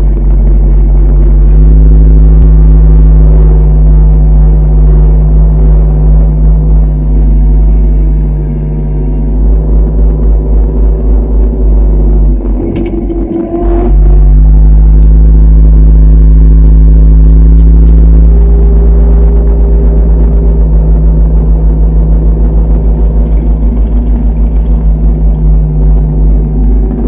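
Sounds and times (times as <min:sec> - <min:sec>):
clatter: 0:00.0 - 0:27.0
tractor engine running: 0:00.0 - 0:27.0.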